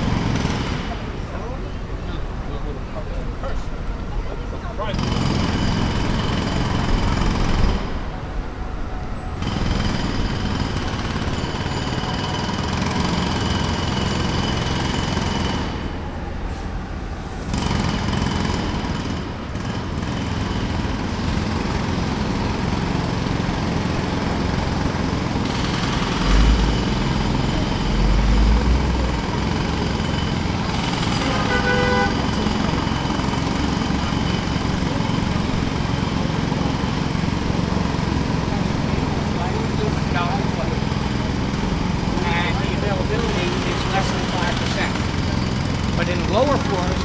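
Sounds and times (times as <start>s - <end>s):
jackhammer hammering: 0.0s - 1.5s, 4.9s - 8.1s, 9.4s - 16.2s, 17.5s - 47.0s.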